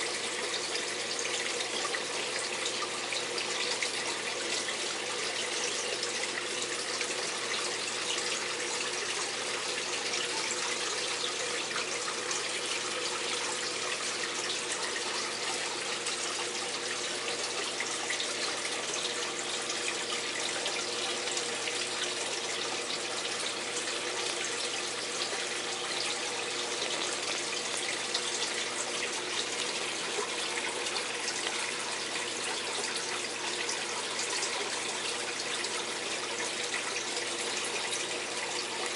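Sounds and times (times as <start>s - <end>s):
faint steady hum: 0.0s - 38.9s
rushing water in tank: 0.0s - 38.9s.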